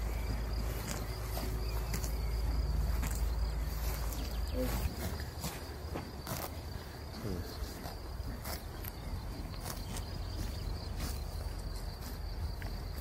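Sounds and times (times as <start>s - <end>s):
crickets chirring: 0.0s - 13.0s
horses tearing grass: 0.0s - 13.0s.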